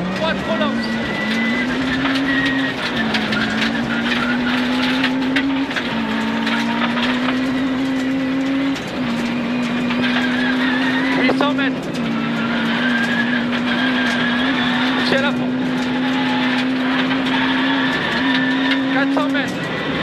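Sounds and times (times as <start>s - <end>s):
car engine at full throttle: 0.0s - 20.0s
gravel rattling against car underbody: 0.0s - 20.0s.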